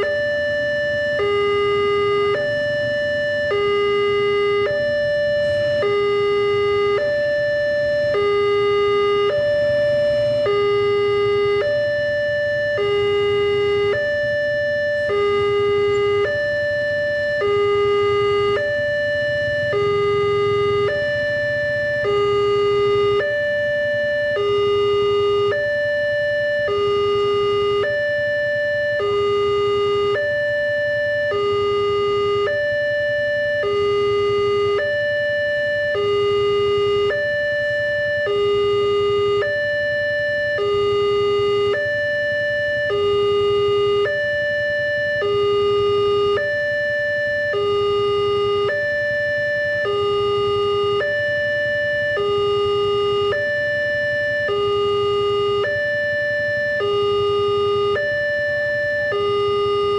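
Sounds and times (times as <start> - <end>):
two-tone level crossing alarm: 0.0 - 59.9.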